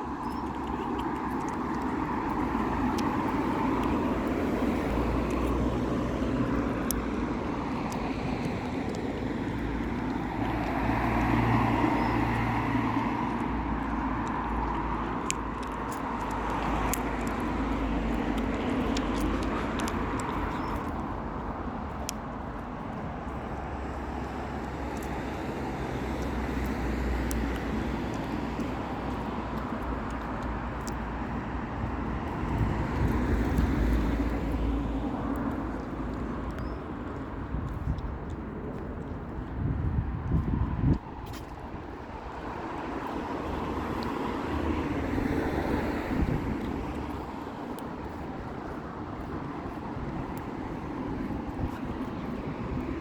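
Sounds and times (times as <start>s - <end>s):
distant road traffic: 0.0s - 53.0s.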